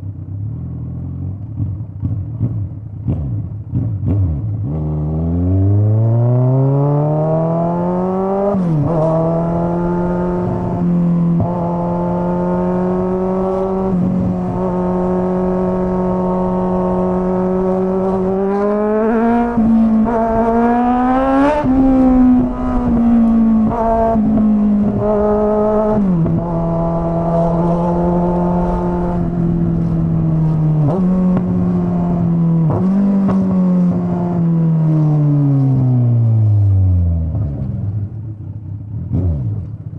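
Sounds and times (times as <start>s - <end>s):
motorcycle exhaust note: 0.0s - 39.9s.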